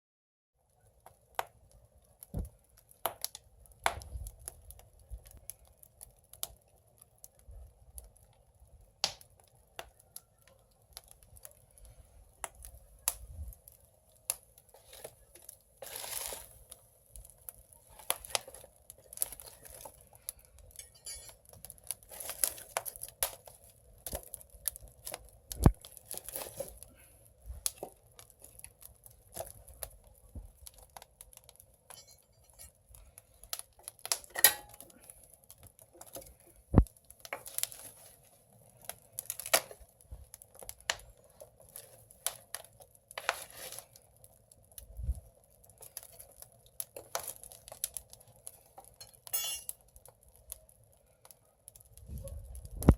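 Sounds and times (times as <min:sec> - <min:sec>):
firewood crackling and popping: 0:00.6 - 0:52.9.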